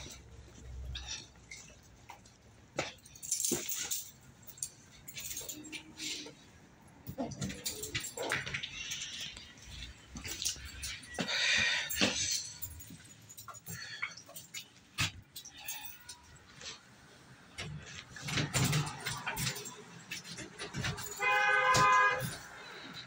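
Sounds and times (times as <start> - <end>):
keys jangling: 0.0 - 16.7, 17.6 - 23.0.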